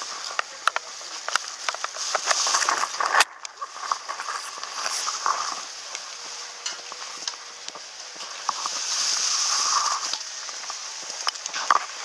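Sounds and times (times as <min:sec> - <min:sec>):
footsteps: 0:00.0 - 0:12.0
grass rustling: 0:00.0 - 0:12.0
high-pitched hiss: 0:00.0 - 0:12.0.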